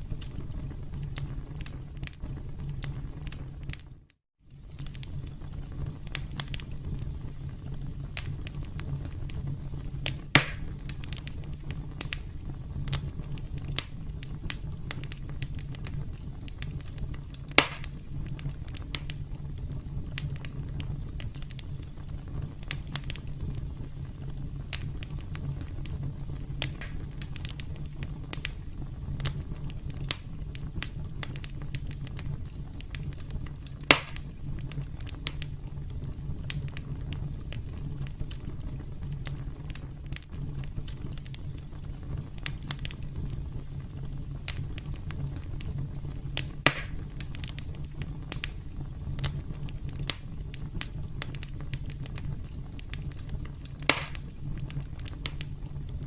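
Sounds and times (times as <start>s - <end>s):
campfire rumbling and crackling: 0.0s - 56.0s
loud sharp fire pops: 4.5s - 56.0s.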